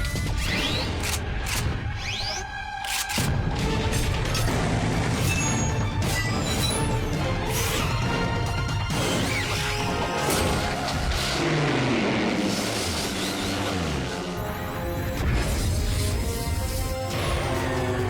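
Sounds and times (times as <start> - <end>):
action cartoon background music: 0.0 - 18.0.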